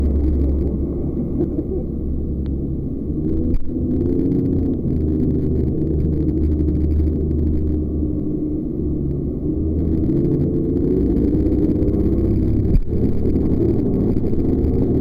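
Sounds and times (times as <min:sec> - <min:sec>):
jet boat engine rumbling: 0:00.0 - 0:15.0.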